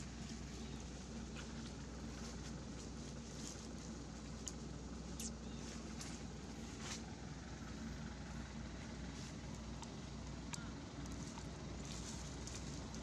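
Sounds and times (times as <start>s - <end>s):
dry leaves crackling: 0.0s - 13.0s
low background rumble: 0.0s - 13.0s.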